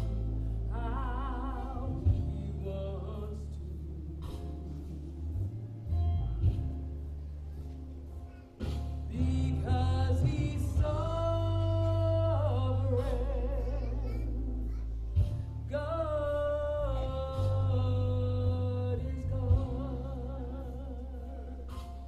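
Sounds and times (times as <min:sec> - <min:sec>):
sustained low bass notes: 0:00.0 - 0:08.2, 0:08.8 - 0:22.0.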